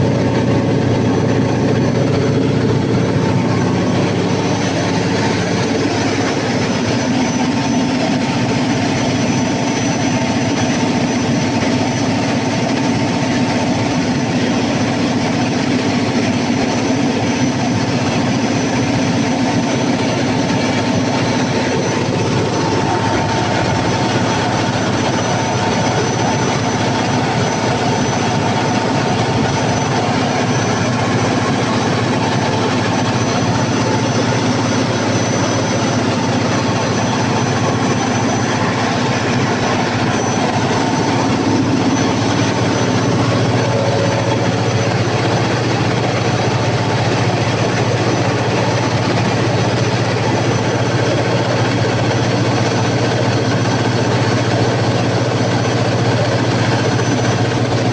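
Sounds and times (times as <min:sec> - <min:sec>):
diesel generator running: 0:00.0 - 0:57.9.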